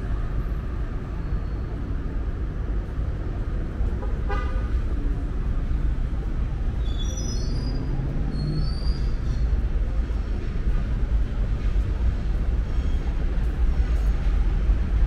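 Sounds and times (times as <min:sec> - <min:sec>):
street traffic rumbling: 0:00.0 - 0:15.0.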